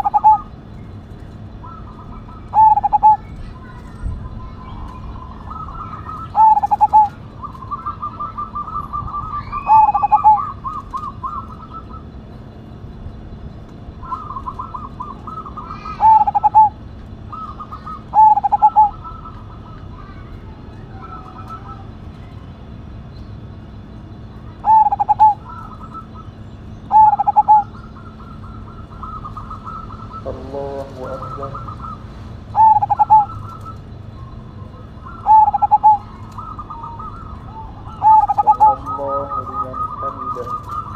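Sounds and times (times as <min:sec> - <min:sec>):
dove double coos: 0:00.0 - 0:00.7, 0:01.5 - 0:03.3, 0:04.5 - 0:12.4, 0:13.9 - 0:22.3, 0:24.2 - 0:40.9.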